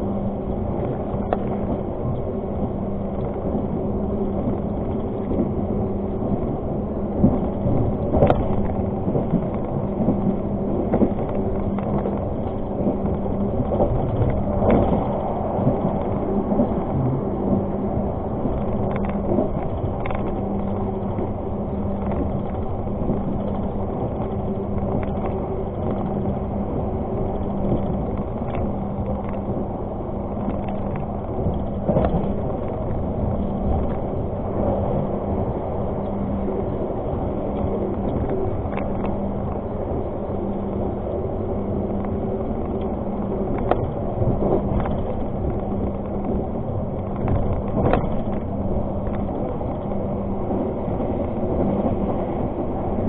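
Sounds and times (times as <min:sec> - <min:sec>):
constant hum: 0:00.0 - 0:53.0
train rumble: 0:00.0 - 0:53.0.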